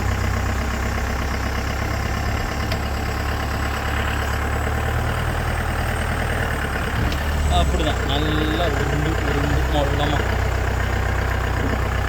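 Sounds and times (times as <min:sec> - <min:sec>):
diesel engine running at low revs: 0:00.0 - 0:12.0.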